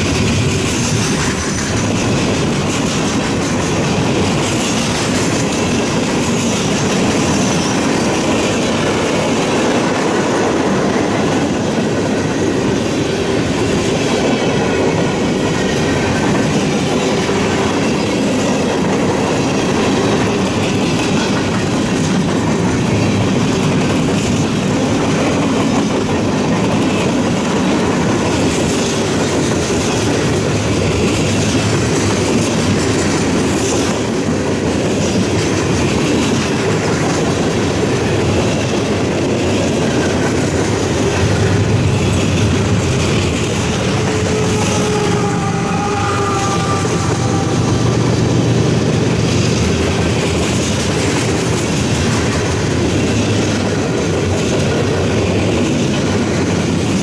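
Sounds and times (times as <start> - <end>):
train wheels clickety-clack: 0.0 - 57.0.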